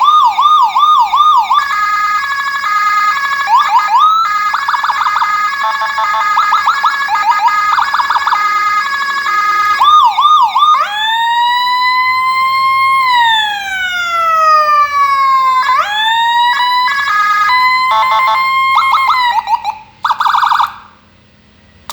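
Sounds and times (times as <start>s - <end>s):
electronic siren cycling tones: 0.0s - 21.0s.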